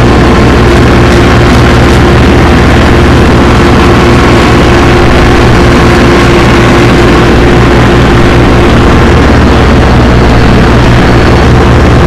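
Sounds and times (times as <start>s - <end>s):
tractor engine running under load: 0.0s - 12.0s.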